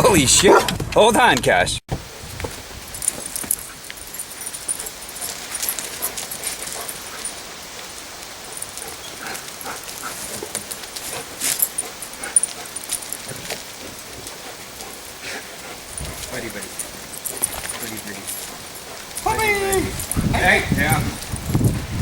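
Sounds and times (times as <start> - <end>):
dogs scuffling: 2.0 - 22.0
light metallic jingling: 2.2 - 22.0.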